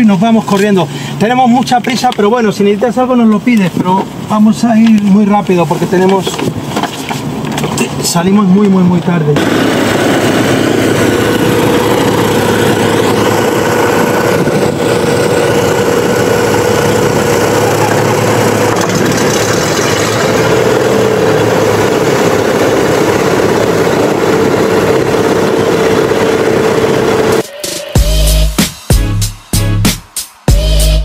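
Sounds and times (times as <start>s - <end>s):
aircraft engines idling: 0.0s - 28.2s.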